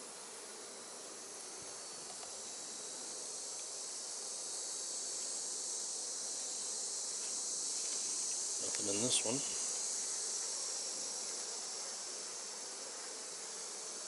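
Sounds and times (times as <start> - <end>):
high-pitched insect hiss: 0.0 - 14.0
honeybees buzzing: 0.0 - 14.0.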